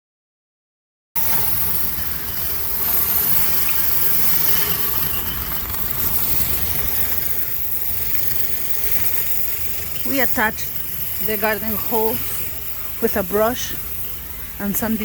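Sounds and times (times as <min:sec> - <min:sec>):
high-pressure water spray hiss: 0:01.2 - 0:15.0
pressure washer engine droning: 0:01.2 - 0:15.0.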